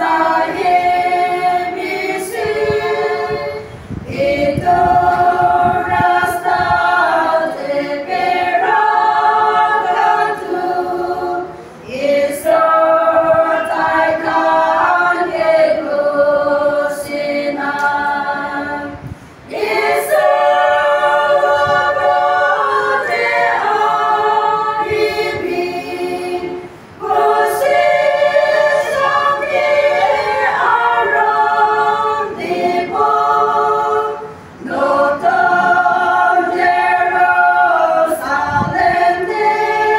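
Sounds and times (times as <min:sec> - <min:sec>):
women's choir singing unaccompanied: 0:00.0 - 0:39.9.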